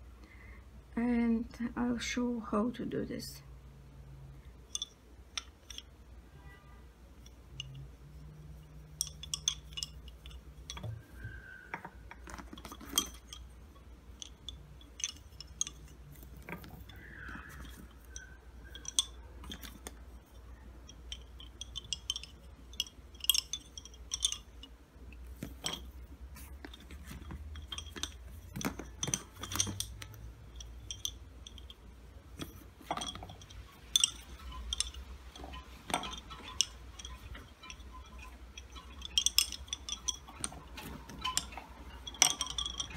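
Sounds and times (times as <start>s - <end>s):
wooden bobbins clicking: 4.6s - 6.0s, 7.1s - 42.9s.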